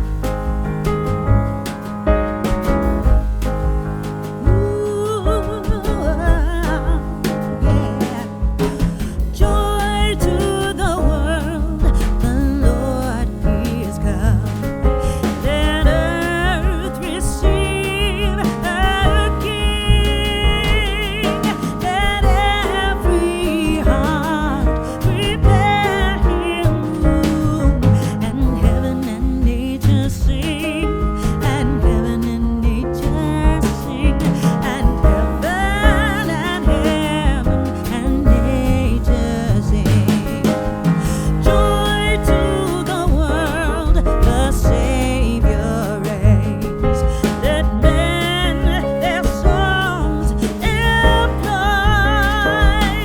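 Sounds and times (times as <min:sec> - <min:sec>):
song with singing over bass beat: 0:02.0 - 0:53.0.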